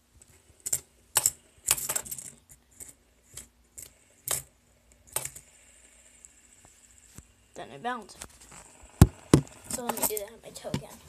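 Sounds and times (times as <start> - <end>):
fidget spinner clicking and rattling: 0.2 - 7.5, 8.6 - 10.9.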